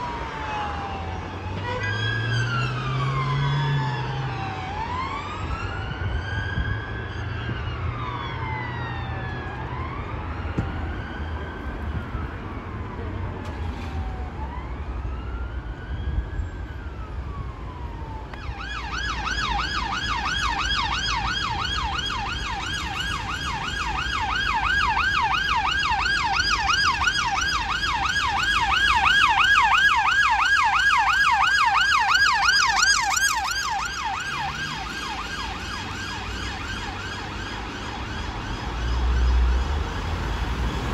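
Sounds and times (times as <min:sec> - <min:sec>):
police siren yelping: 0:00.0 - 0:40.9
sirens wailing: 0:00.0 - 0:40.9.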